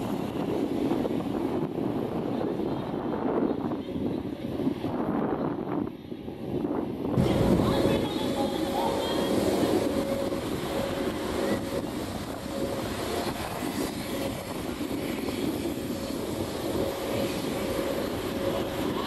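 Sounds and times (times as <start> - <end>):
faint turbine whine: 0.0 - 19.0
helicopter rotors droning: 0.0 - 19.0.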